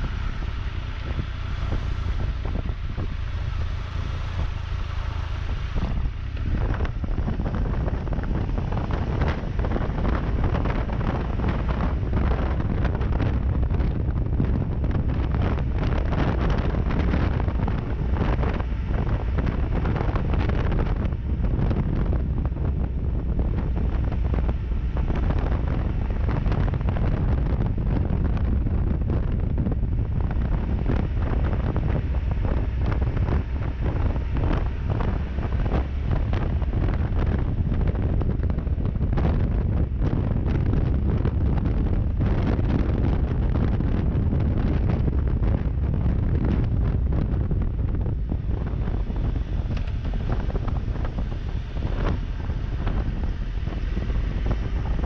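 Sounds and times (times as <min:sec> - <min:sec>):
motorcycle engine rumble: 0:00.0 - 0:55.0
wind buffeting microphone: 0:00.0 - 0:55.0.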